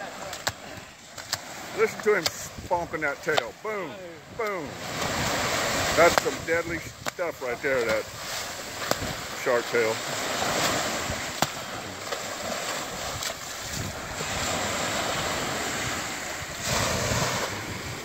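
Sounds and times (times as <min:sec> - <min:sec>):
surf washing on beach: 0:00.0 - 0:18.0
wind buffeting microphone: 0:01.8 - 0:18.0.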